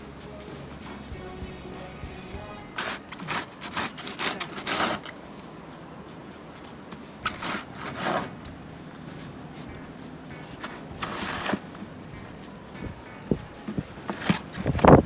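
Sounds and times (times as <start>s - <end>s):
snow crunching: 0.0s - 15.0s.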